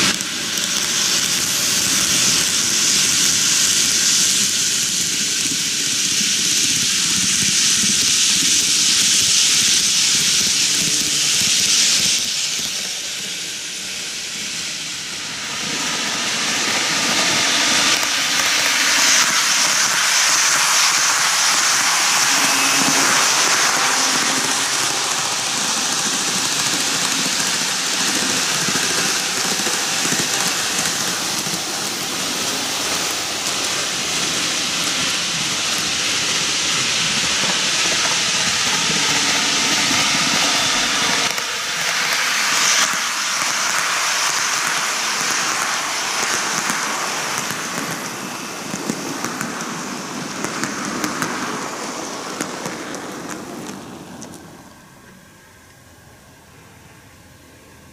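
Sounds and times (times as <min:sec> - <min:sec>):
model train wheels on rails: 0:00.0 - 0:57.9.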